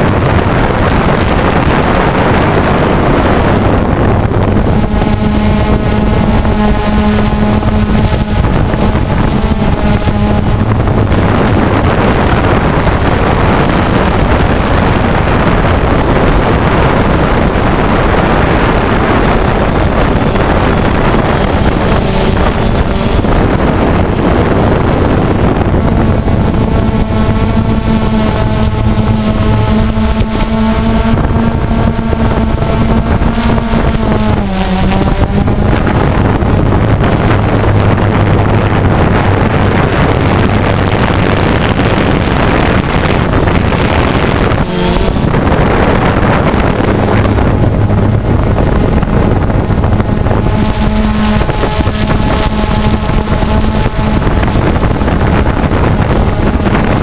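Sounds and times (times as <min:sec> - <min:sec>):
drone motors humming: 0:00.0 - 0:57.0
wind rushing over microphone: 0:00.0 - 0:57.0.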